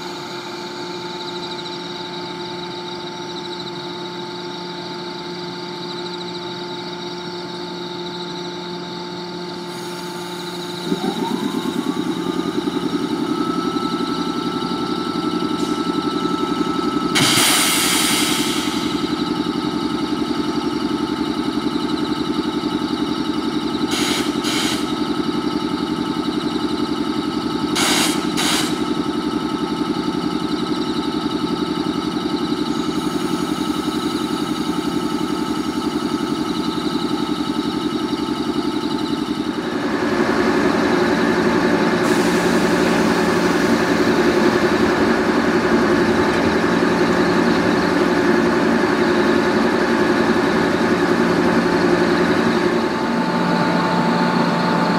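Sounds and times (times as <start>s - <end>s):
electric train equipment hum: 0.0s - 54.9s.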